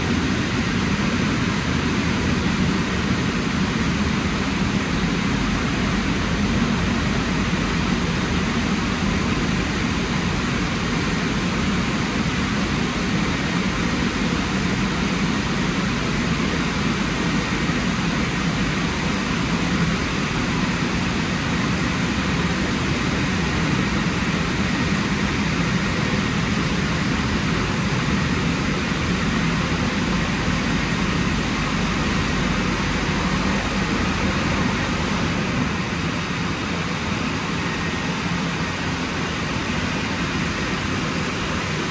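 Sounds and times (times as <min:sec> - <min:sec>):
car wash drying blowers running: 0:00.0 - 0:41.9.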